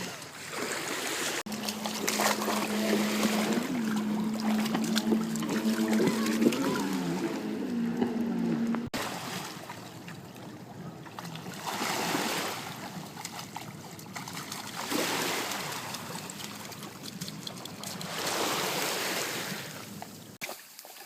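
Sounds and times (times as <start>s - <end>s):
water surges: 0.0s - 20.4s
river water splashing at bank: 0.0s - 21.0s.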